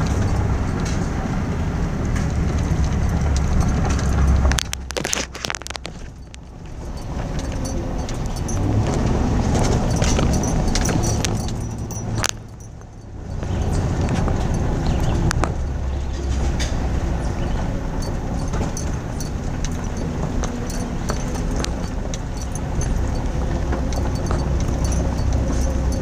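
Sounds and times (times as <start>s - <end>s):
engine and tyres rumbling: 0.0s - 26.0s
gravel crunching under tyres: 0.0s - 26.0s.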